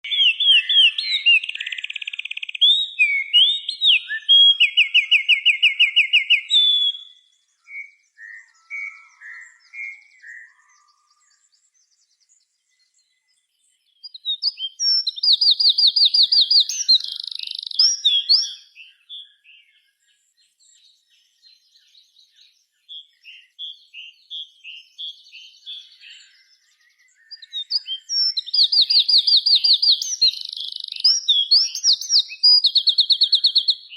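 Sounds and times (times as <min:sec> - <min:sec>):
soft bird chirps: 0:00.0 - 0:33.9
songbirds trilling: 0:00.0 - 0:33.9.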